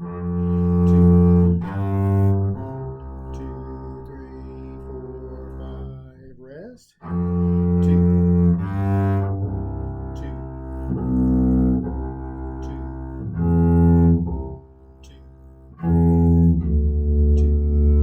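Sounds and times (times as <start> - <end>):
bowed double bass: 0.0 - 18.0.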